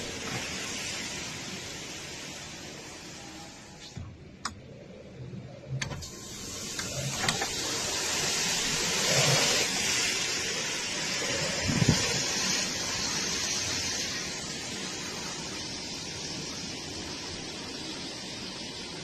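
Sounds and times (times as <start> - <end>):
strong wind and heavy rain: 0.0 - 4.3, 4.9 - 19.0.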